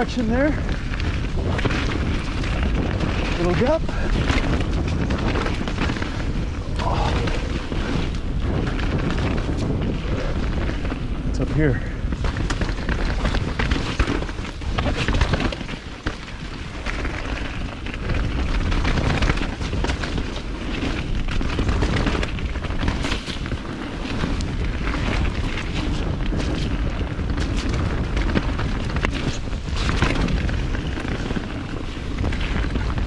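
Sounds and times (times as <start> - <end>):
bike clattering over bumps: 0.0 - 33.0
bike tyres rolling on dirt: 0.0 - 33.0.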